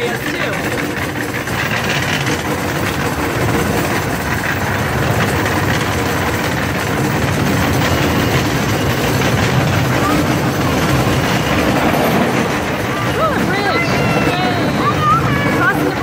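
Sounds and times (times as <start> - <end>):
miniature train rumbling on track: 0.0 - 16.0.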